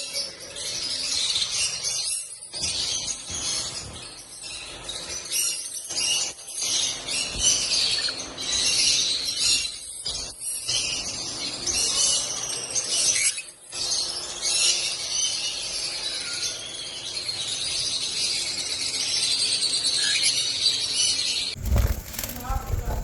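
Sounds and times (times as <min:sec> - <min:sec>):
lovebirds chattering and chirping: 0:00.0 - 0:23.0.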